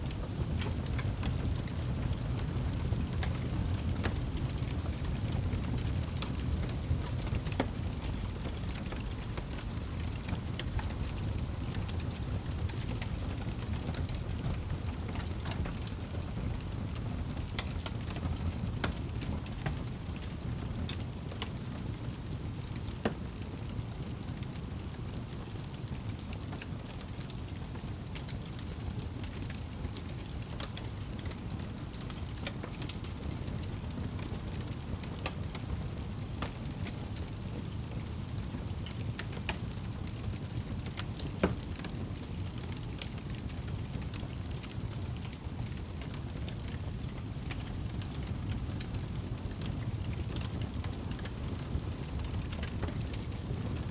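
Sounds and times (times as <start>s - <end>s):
fire crackling and popping: 0.0s - 53.9s
rain rumble: 0.0s - 53.9s.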